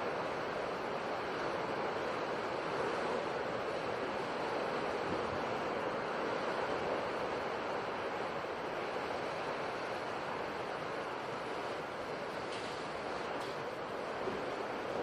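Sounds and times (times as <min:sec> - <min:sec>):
sea surf rushing: 0:00.0 - 0:15.0.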